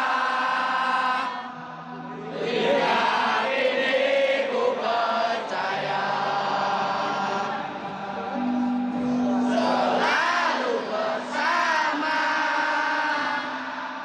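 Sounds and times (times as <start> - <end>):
crowd chanting: 0.0 - 14.0.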